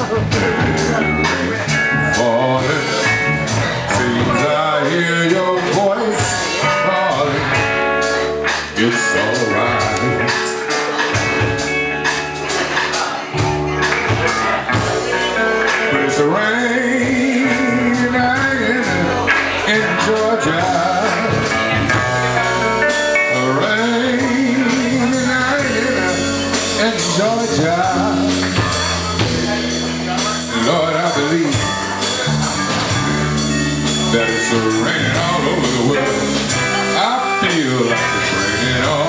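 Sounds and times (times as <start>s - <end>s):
electric guitar lead notes: 0.0s - 39.0s
live blues band playing: 0.0s - 39.0s.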